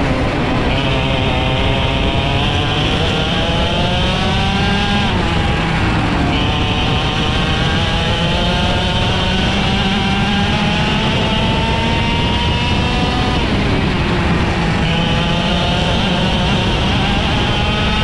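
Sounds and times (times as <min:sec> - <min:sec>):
kart engine revving: 0:00.0 - 0:18.0.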